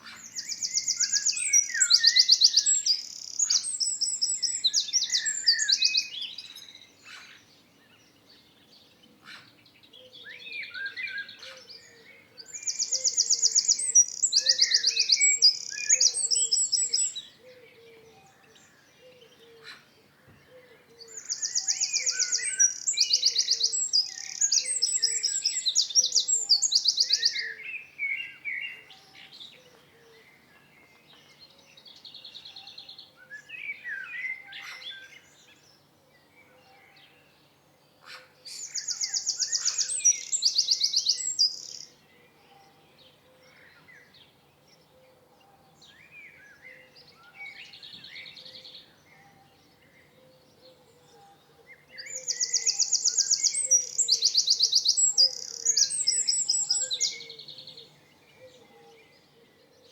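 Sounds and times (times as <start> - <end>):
songbirds singing trills: 0.0 - 59.9.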